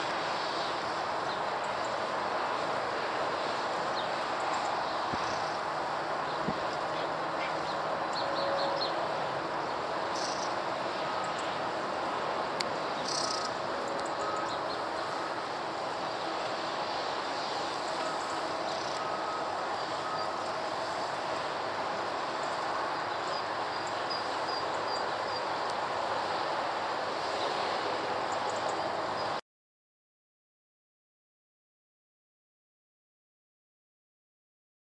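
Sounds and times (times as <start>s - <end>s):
jet engines rushing: 0.0s - 29.4s.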